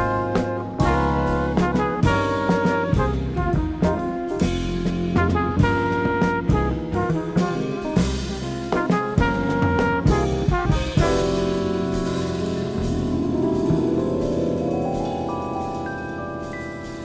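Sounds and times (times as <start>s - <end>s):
jazz from vinyl record: 0.0s - 17.0s.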